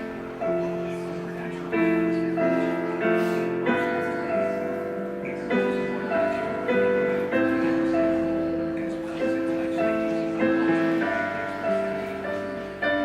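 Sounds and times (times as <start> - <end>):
keyboard playing held chords: 0.0 - 13.0.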